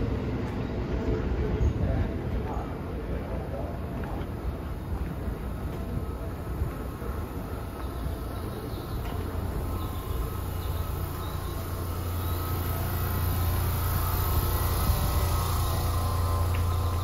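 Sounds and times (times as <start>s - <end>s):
electric train equipment humming: 0.0s - 17.0s.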